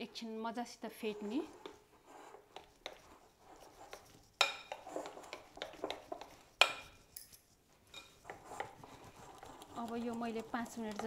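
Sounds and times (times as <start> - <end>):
spoon beating batter in bowl: 1.0 - 11.0.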